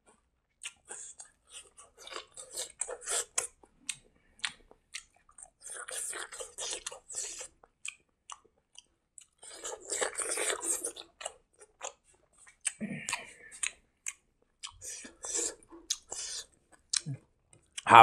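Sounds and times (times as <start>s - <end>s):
person chewing rice: 0.6s - 17.8s.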